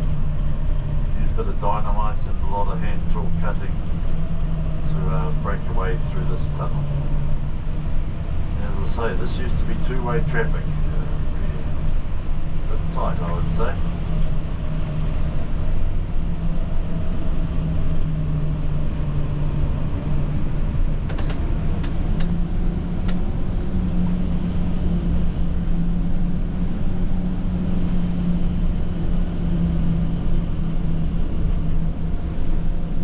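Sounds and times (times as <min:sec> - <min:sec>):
bus engine drone: 0:00.0 - 0:33.0
road rumble: 0:00.0 - 0:33.0.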